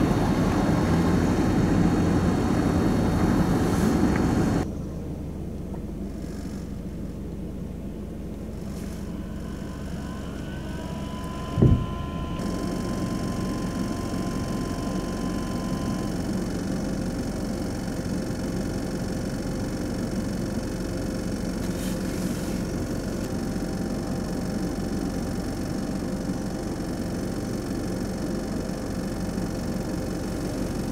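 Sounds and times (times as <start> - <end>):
vehicle engine idling: 0.0 - 30.9
faint constant hum: 1.8 - 30.9.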